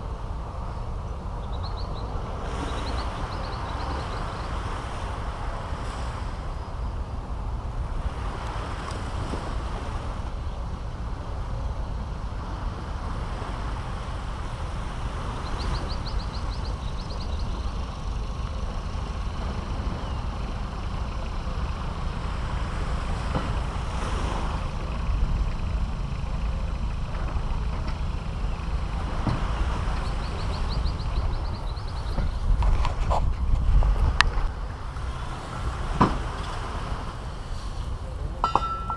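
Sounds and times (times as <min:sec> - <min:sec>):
wind rumble on microphone: 0:00.0 - 0:38.9
surf washing onto a beach: 0:02.0 - 0:38.9.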